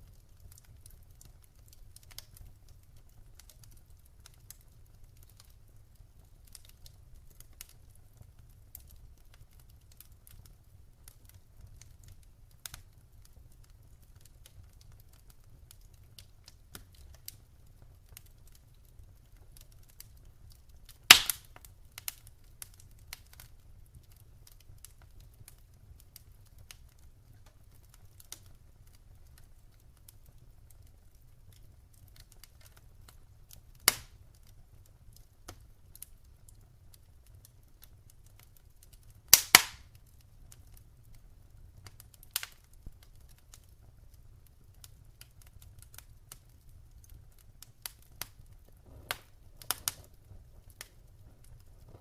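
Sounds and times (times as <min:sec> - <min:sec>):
fire crackling and popping: 0:00.0 - 0:52.0
low fire rumble: 0:00.0 - 0:52.0.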